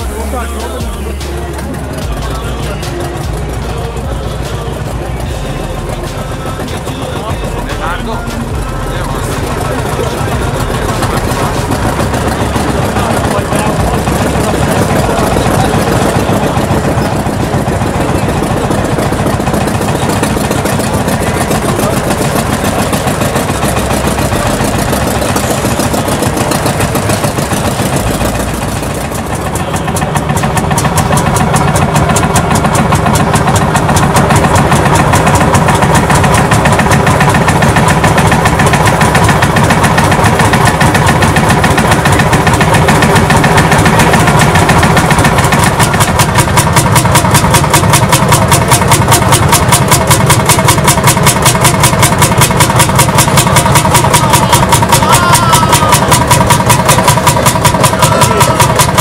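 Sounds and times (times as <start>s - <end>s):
tractor engines idling: 0.0s - 59.0s.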